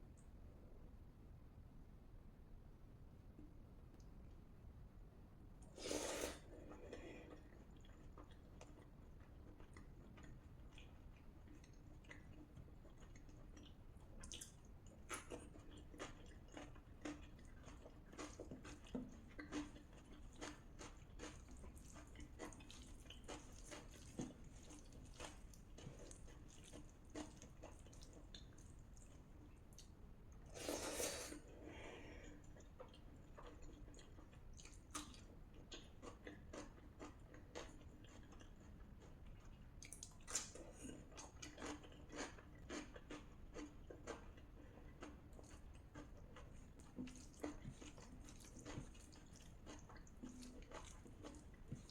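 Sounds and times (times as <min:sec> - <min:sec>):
person chewing food: 0:05.7 - 0:51.9.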